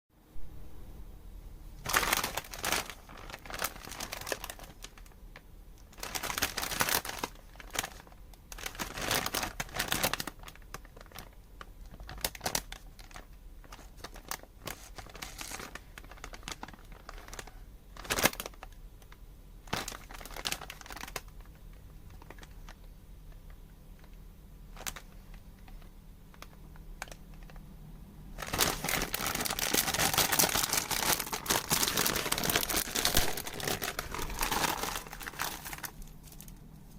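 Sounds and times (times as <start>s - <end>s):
wrapper rustling: 1.8s - 5.2s, 5.8s - 19.1s, 19.7s - 22.9s, 24.7s - 27.6s, 28.4s - 36.9s
plastic wrapper crinkling: 1.8s - 27.6s, 28.4s - 36.9s.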